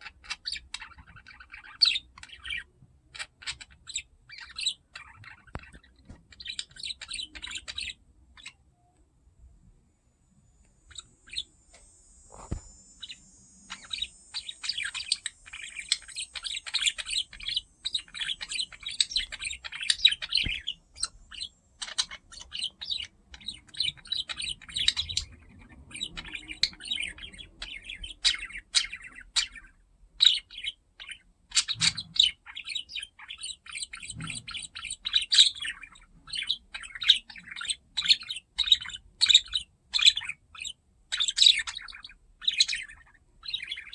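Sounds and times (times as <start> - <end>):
budgerigar chattering and warbling: 0.0 - 8.6, 13.0 - 43.9.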